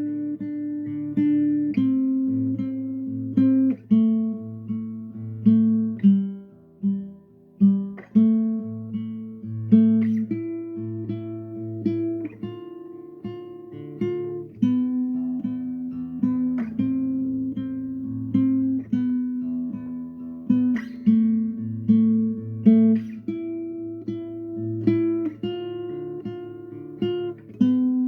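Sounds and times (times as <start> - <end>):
solo acoustic guitar: 0.0 - 28.0.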